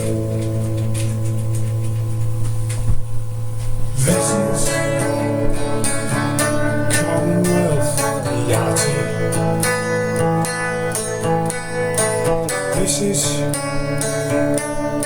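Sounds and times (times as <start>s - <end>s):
low drone: 0.0s - 12.4s
plucked guitar notes: 0.0s - 15.0s
high ticking beat: 0.1s - 15.0s.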